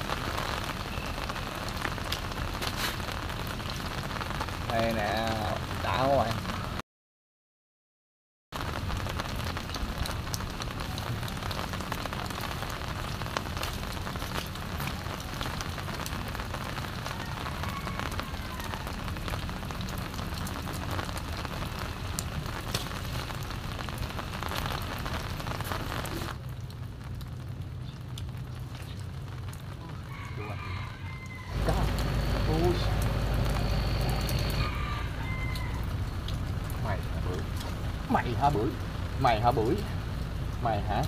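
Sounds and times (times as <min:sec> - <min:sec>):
rain drop impacts: 0:00.0 - 0:06.8, 0:08.6 - 0:41.0
steady rain falling: 0:00.0 - 0:06.8, 0:08.6 - 0:41.0.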